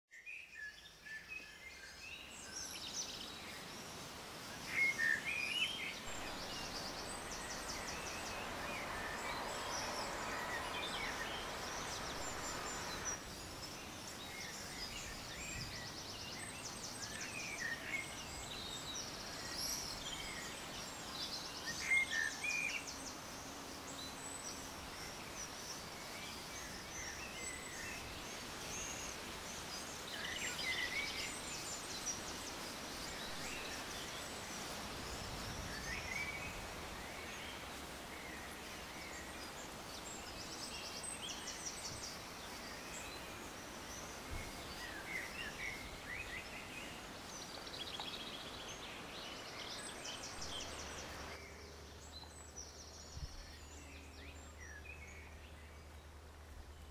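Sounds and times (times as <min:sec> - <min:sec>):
songbirds chirping and trilling: 0:00.1 - 0:56.9
steady background hiss: 0:00.2 - 0:56.9.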